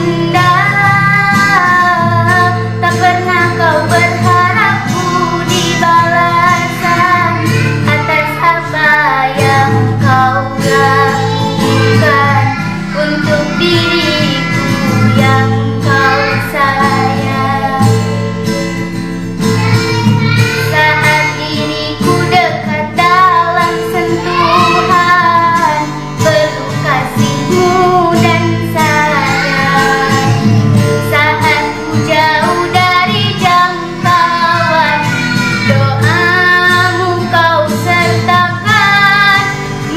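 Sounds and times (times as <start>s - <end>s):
girl singing a slow ballad: 0.0s - 18.7s, 19.5s - 39.9s
karaoke backing track: 0.0s - 39.9s.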